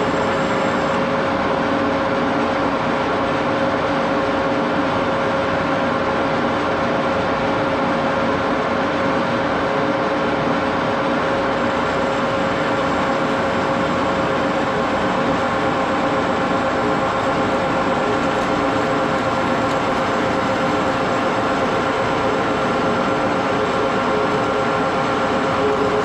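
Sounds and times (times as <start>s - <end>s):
lathe running with whine: 0.0s - 26.0s.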